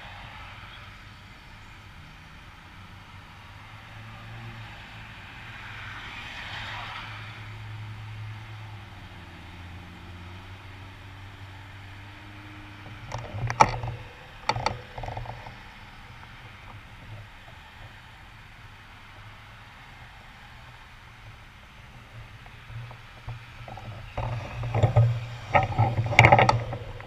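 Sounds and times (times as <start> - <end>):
car passing: 0.0 - 27.0
low traffic rumble: 0.0 - 27.0.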